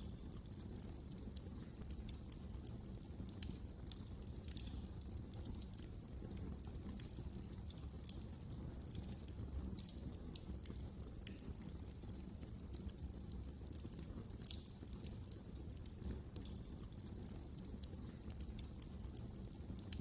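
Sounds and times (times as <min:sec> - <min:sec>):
low rumble of burning fire: 0:00.0 - 0:20.0
wood fire crackling: 0:00.0 - 0:20.0.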